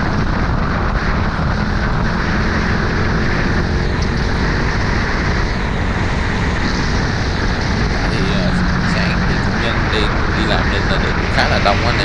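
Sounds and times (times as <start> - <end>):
vehicle engine and road noise: 0.0 - 12.0
wind rushing on microphone: 0.0 - 12.0.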